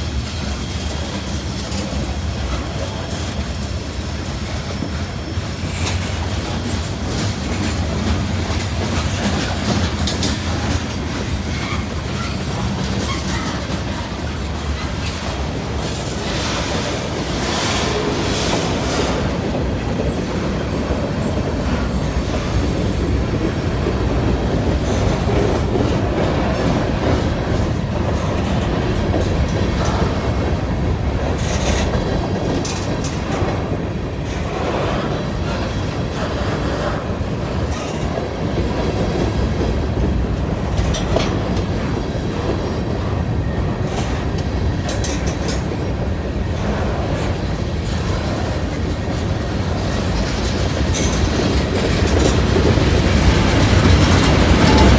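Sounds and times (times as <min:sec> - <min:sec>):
freight train rumbling past: 0:00.0 - 0:54.9
wheels clacking over rail joints: 0:00.0 - 0:54.9.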